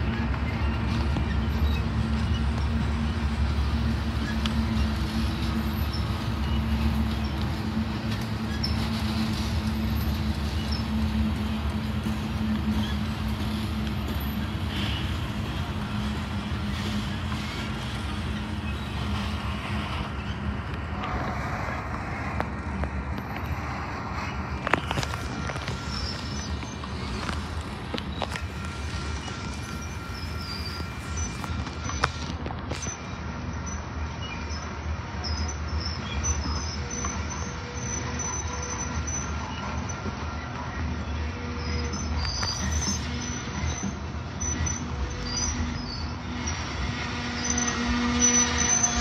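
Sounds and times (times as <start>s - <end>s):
droning hum: 0.0s - 49.0s
engine rumble: 0.0s - 49.0s.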